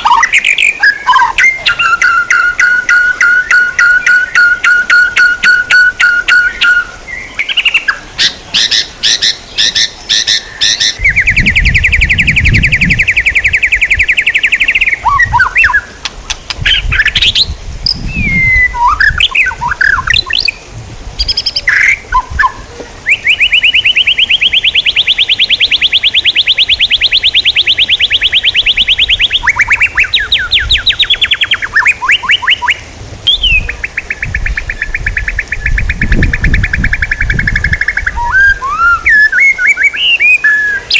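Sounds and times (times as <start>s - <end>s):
songbird trills and whistles: 0.0s - 20.6s, 21.2s - 40.9s.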